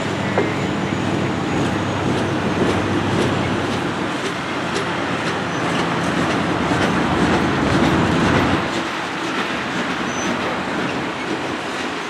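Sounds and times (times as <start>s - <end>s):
deep train rumble: 0.0s - 12.0s
train wheels clacking: 0.0s - 12.0s
train wheels on rails: 0.0s - 12.0s.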